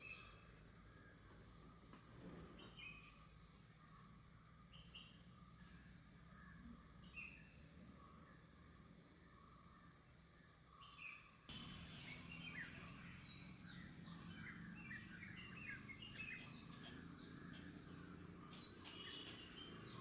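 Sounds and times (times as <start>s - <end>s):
small birds chirping: 0.0s - 8.4s, 10.4s - 20.0s
insects trilling: 0.0s - 20.0s.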